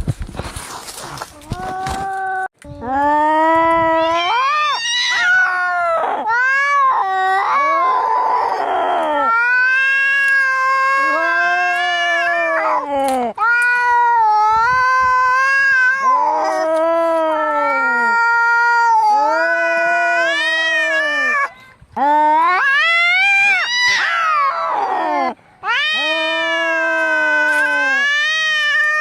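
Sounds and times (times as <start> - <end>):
cats yowling in a fight: 3.8 - 21.5, 22.1 - 29.0.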